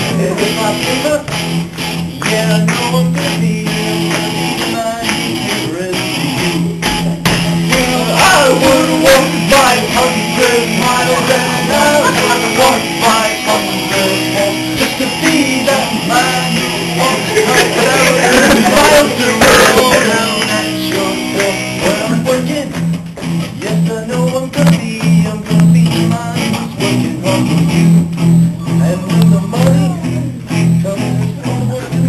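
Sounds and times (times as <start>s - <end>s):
person singing: 0.0s - 1.4s, 2.1s - 22.8s, 23.5s - 27.9s, 28.5s - 32.0s
rock guitar: 0.0s - 32.0s.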